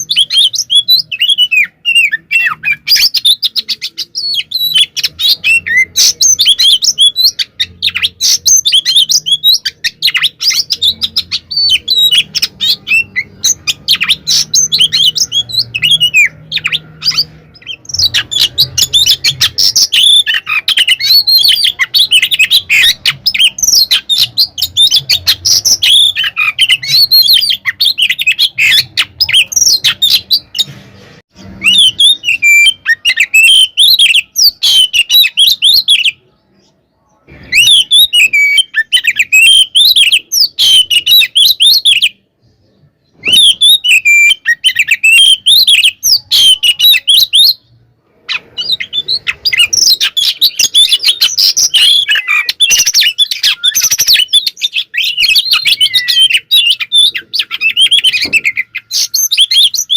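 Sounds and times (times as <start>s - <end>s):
bird singing whistles and chirps: 0.0s - 30.7s, 31.4s - 47.7s, 48.3s - 59.9s.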